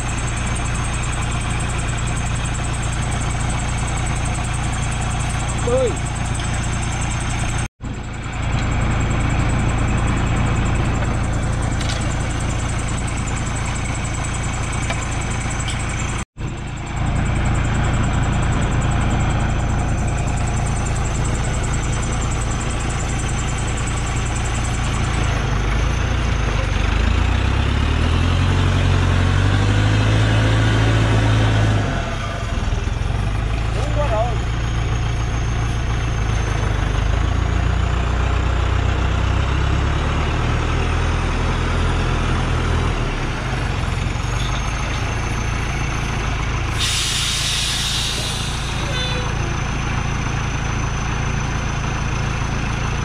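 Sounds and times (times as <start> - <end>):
truck engine running and revving: 0.0 - 53.0.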